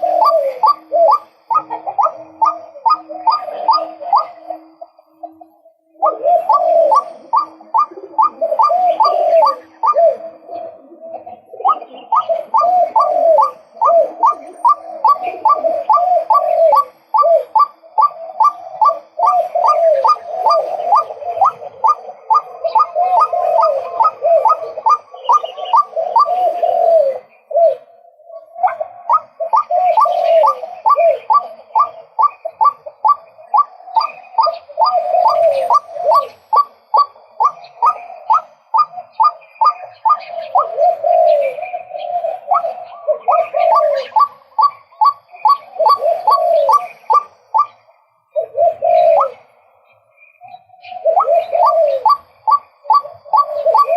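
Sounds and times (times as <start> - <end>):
waterhen calling: 0.0 - 49.6, 50.5 - 53.9.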